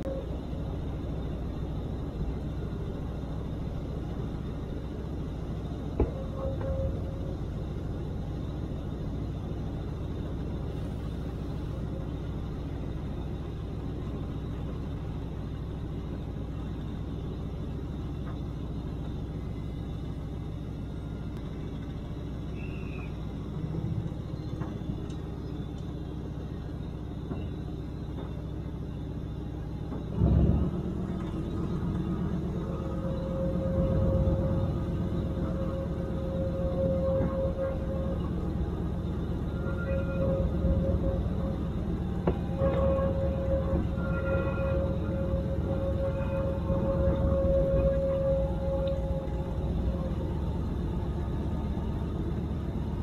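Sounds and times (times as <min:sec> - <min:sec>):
diesel locomotive engine drone: 0:00.0 - 0:53.0
train rumbling on track: 0:00.0 - 0:53.0.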